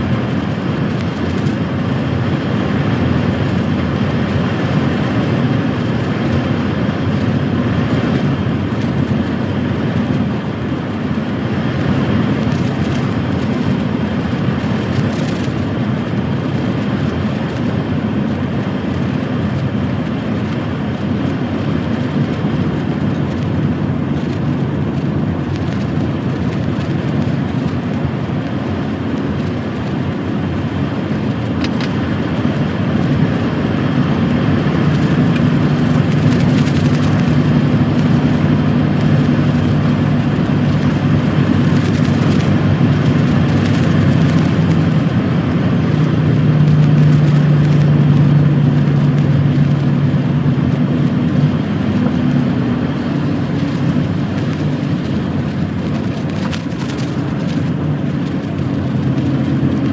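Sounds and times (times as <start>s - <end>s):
lorry diesel engine running: 0.0s - 59.9s
road and tyre rumble: 0.0s - 59.9s.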